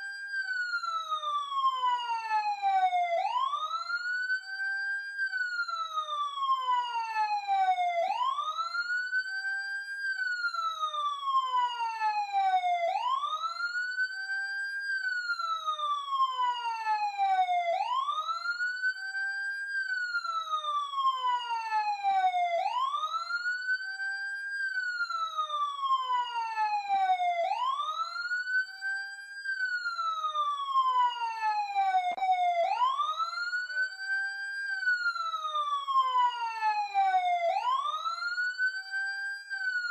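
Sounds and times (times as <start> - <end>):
emergency siren wailing: 0.0 - 39.9.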